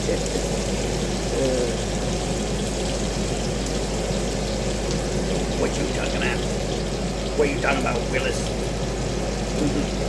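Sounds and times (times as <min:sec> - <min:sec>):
bacon sizzling and crackling: 0:00.0 - 0:10.0.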